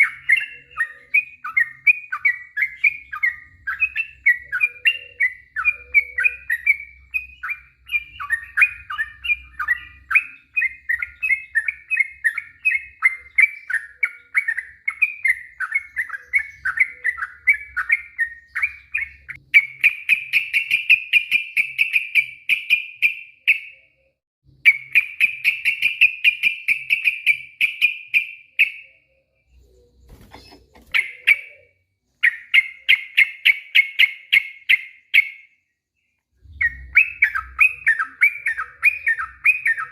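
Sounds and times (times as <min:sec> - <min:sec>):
bird chirping: 0:00.0 - 0:39.9
bird singing with rapid trills: 0:00.0 - 0:39.9.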